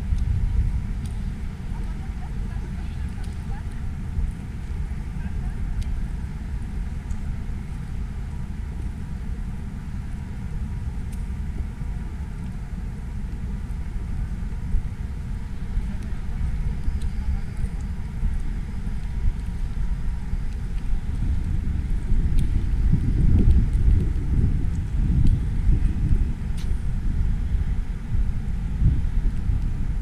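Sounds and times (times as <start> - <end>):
city road traffic rumble: 0.0 - 30.0.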